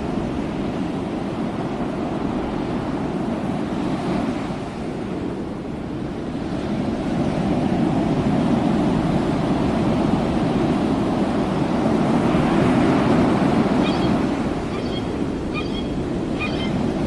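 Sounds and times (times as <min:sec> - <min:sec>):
waves surging: 0:00.0 - 0:17.0
wind: 0:00.0 - 0:17.0.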